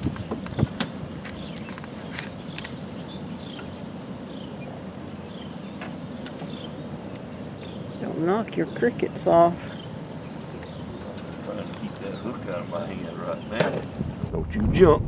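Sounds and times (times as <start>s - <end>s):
bird chirping: 0.0s - 14.3s
low river rumble: 0.0s - 14.6s.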